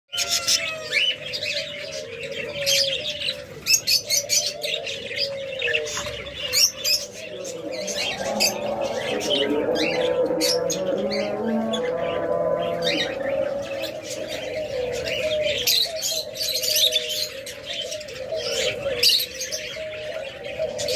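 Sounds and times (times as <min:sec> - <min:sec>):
doves cooing: 0:00.1 - 0:20.9.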